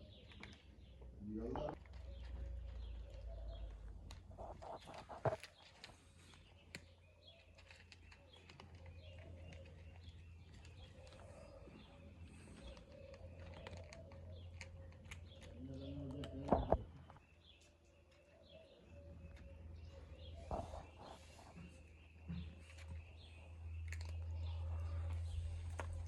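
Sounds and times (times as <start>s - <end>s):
cats crunching food: 0.0s - 1.0s, 1.7s - 18.3s, 20.6s - 26.0s
birds chirping: 0.0s - 26.0s.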